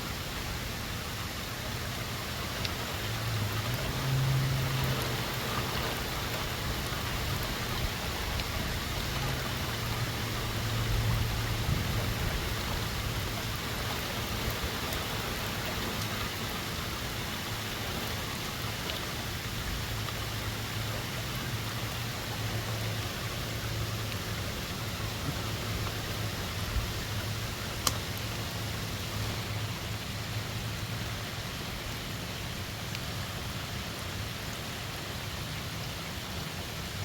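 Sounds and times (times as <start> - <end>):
wind and rain hiss: 0.0 - 37.0.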